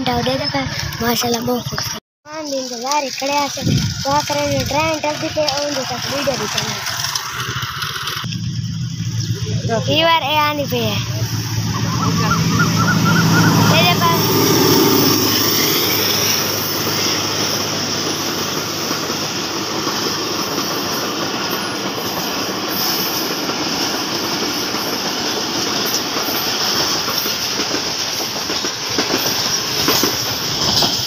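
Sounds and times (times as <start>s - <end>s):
diesel locomotive passing: 0.0s - 31.0s
train coaches rumbling: 0.0s - 31.0s
train wheels clickety-clack: 2.8s - 8.5s, 10.2s - 31.0s.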